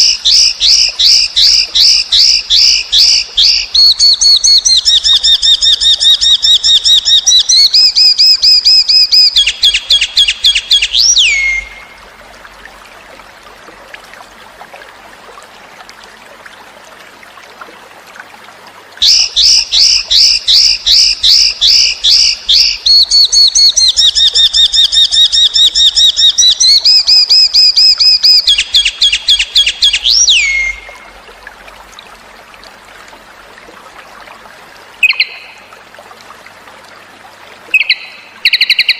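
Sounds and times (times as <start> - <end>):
faint trickling water: 0.0 - 38.9.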